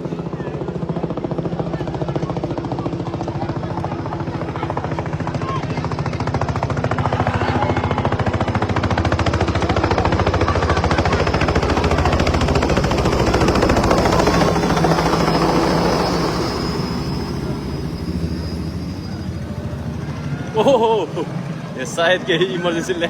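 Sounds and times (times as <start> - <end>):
helicopter rotor blades chopping: 0.0 - 23.0.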